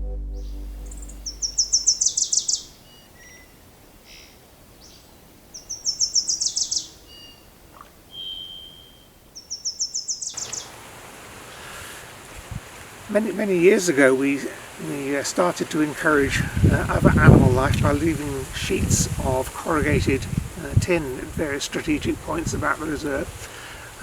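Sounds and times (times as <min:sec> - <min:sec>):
songbird singing: 0:00.0 - 0:24.0
background hiss: 0:00.4 - 0:24.0.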